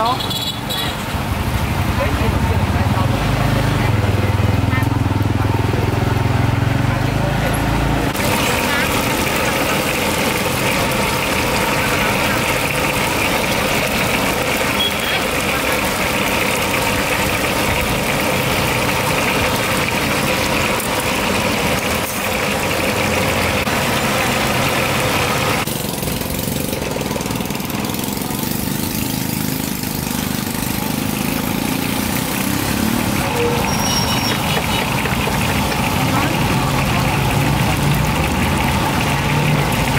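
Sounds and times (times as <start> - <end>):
engines running steadily: 1.0 - 39.9.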